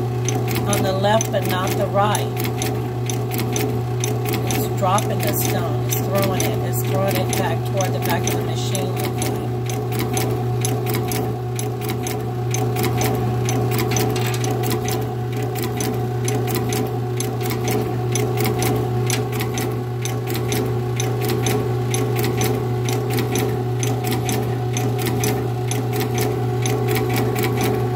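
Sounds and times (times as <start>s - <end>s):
steady low hum: 0.0s - 26.9s
machine mechanism clicking rapidly: 0.2s - 27.9s.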